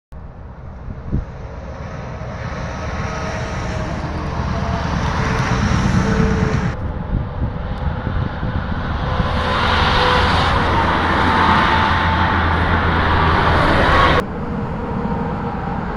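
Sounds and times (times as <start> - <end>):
trucks driving past: 0.2 - 15.9.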